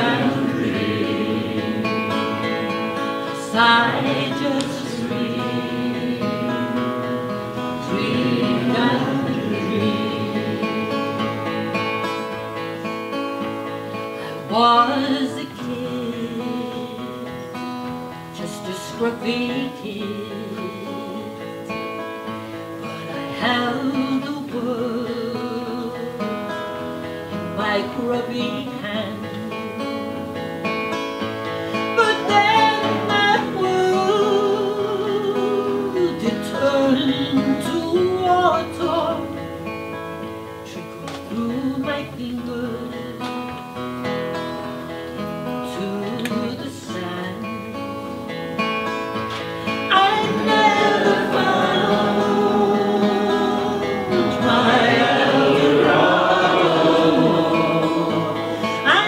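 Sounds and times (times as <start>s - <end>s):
woman singing folk song: 0.0s - 56.0s, 56.9s - 59.0s
strummed acoustic guitar: 0.0s - 59.0s.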